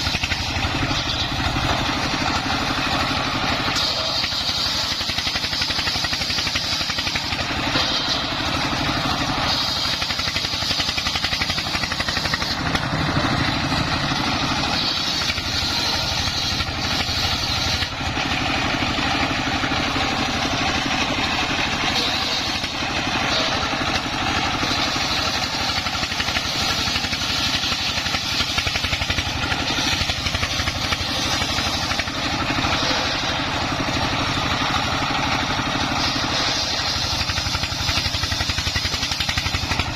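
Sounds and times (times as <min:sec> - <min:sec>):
diesel engine running: 0:00.0 - 0:39.9
saw blade cutting timber: 0:00.0 - 0:39.9.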